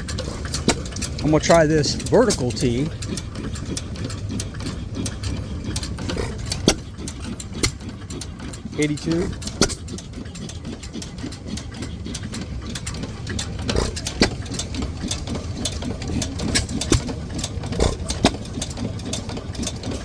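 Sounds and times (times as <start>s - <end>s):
gas engines running: 0.0s - 20.0s.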